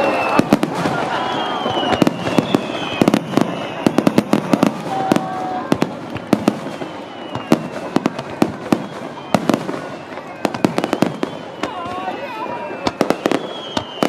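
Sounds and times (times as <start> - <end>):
fireworks bursting with bangs: 0.0 - 14.0.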